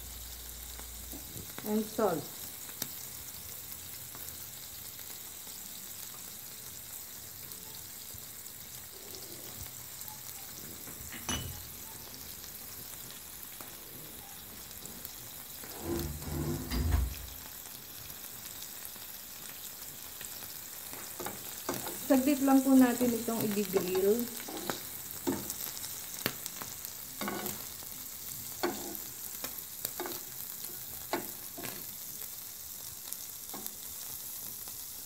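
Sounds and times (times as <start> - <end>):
prawns sizzling on a grill pan: 0.0 - 35.0.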